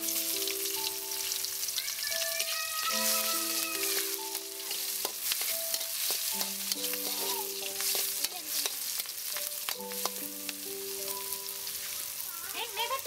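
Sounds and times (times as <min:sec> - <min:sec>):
chillies sizzling in hot oil: 0:00.0 - 0:13.0
soft background music: 0:00.0 - 0:13.0.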